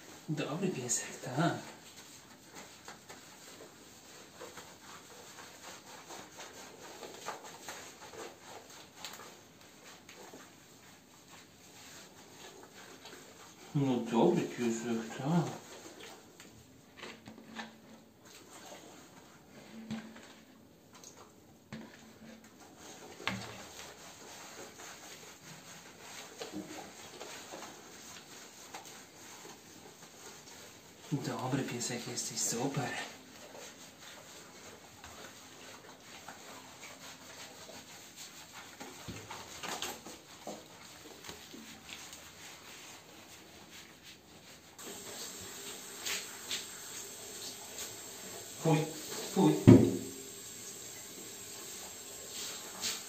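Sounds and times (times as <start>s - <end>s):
hands rubbing lather into fur: 0.0s - 16.6s, 18.2s - 19.6s, 22.1s - 53.0s.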